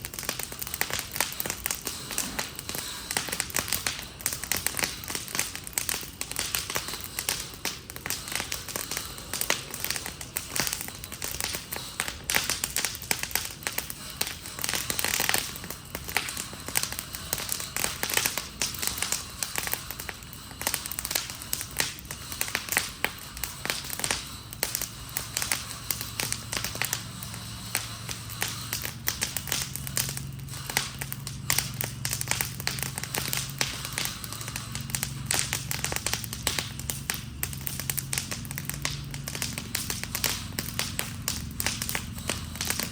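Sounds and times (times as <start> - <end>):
fire crackling and popping: 0.0 - 42.9
low steady hum: 0.0 - 42.9.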